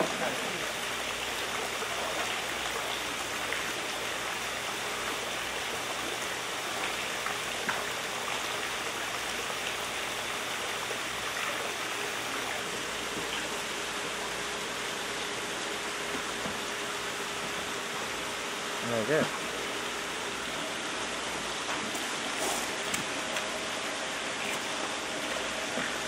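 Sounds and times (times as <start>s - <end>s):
water gushing into a tank: 0.0s - 26.0s.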